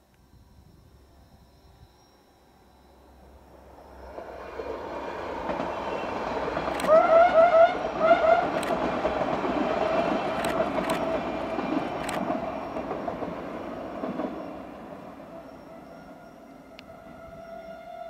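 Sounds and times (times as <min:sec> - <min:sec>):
train running: 0:02.5 - 0:18.0.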